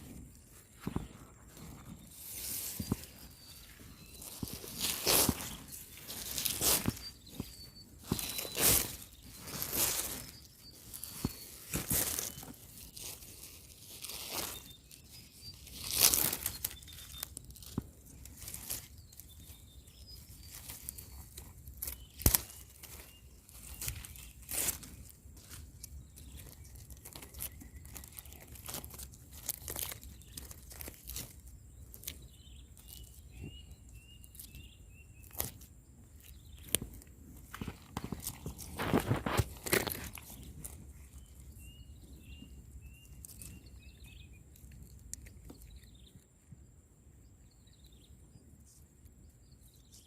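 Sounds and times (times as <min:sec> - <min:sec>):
rustling: 0:00.0 - 0:46.3
small bird chirping: 0:00.0 - 0:50.0.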